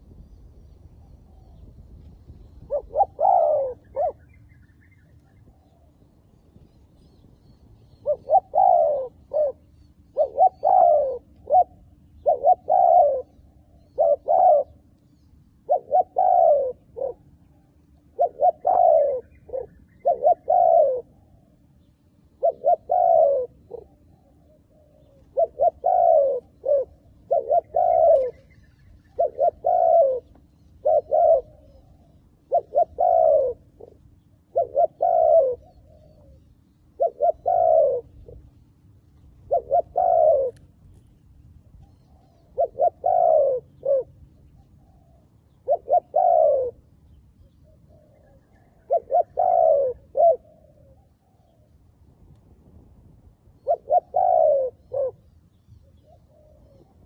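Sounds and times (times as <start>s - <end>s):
dove cooing: 0.0s - 51.8s, 53.3s - 57.0s.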